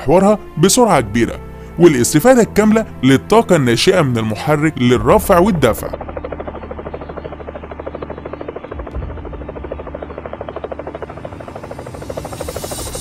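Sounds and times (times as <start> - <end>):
low engine drone: 0.0 - 13.0
helicopter rotor blades chopping: 0.6 - 13.0.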